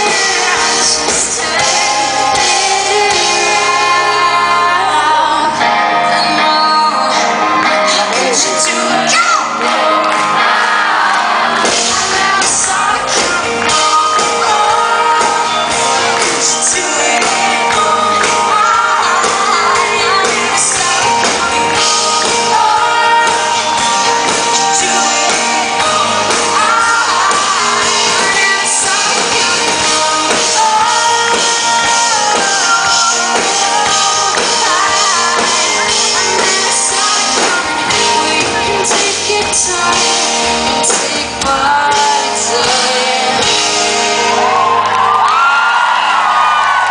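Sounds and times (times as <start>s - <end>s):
live band with guitar: 0.0s - 46.9s
woman singing lead: 0.0s - 46.9s.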